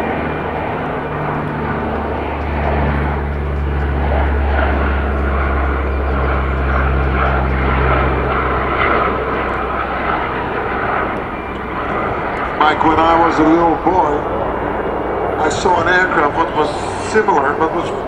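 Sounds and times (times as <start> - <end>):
low hum: 0.0 - 18.0
turboprop aircraft flying past: 0.0 - 18.0.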